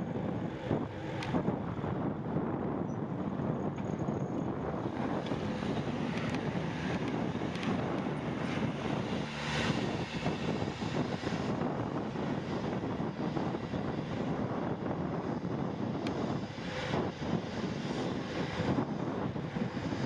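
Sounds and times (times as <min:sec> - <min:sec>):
road traffic: 0:00.0 - 0:20.0
wind rushing over microphone: 0:00.0 - 0:20.0.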